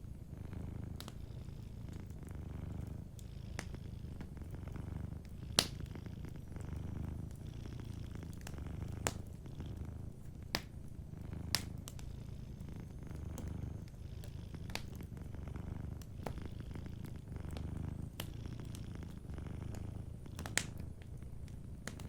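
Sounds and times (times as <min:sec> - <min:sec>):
cat purring: 0:00.0 - 0:22.0
wood fire popping: 0:00.7 - 0:01.2, 0:01.9 - 0:22.0.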